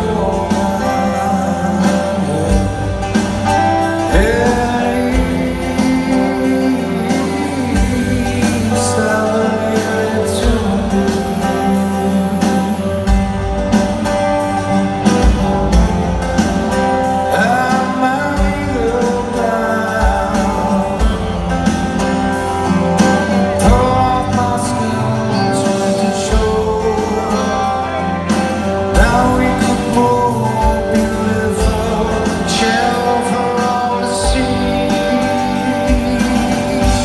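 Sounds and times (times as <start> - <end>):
man singing lead vocal: 0.0 - 14.3, 15.2 - 37.0
rock band playing live: 0.0 - 37.0.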